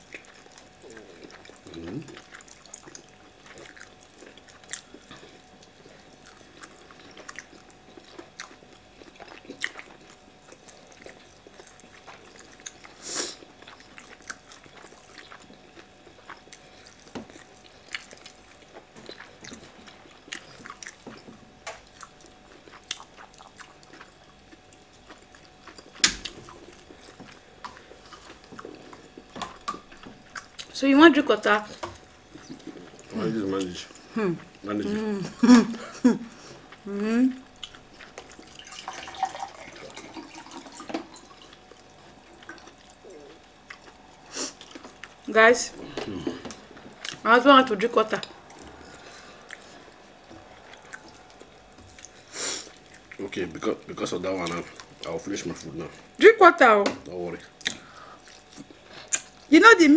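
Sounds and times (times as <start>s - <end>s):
quiet chewing with clicks: 0.0s - 30.8s, 31.7s - 34.7s, 36.7s - 38.6s, 41.4s - 47.2s, 48.1s - 56.2s, 57.0s - 59.5s.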